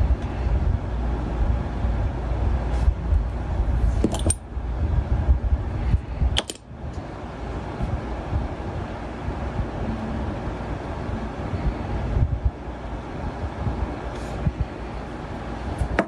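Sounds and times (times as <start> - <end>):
low rumble: 0.0 - 15.6.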